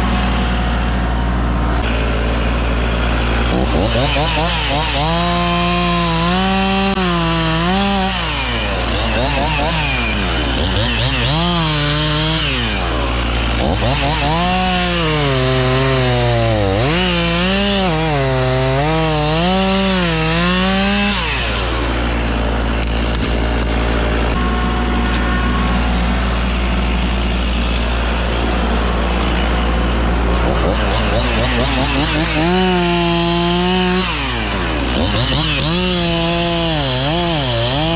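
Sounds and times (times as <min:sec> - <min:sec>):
chainsaw cutting wood: 0:01.4 - 0:37.9.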